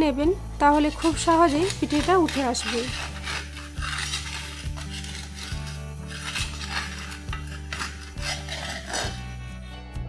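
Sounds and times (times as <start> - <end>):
metal spatula scraping clay pan: 0.6 - 9.4.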